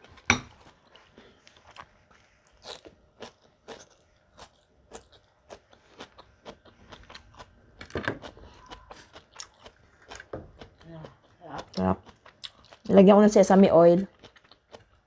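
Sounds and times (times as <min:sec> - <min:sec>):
chewing crunchy food: 0:00.0 - 0:12.9, 0:14.0 - 0:15.0.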